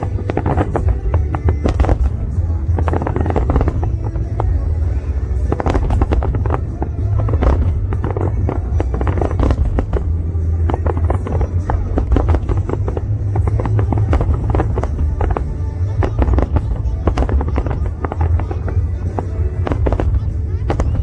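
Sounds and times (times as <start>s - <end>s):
deep rumble: 0.0s - 21.0s
fireworks crackling pops and bangs: 0.0s - 21.0s.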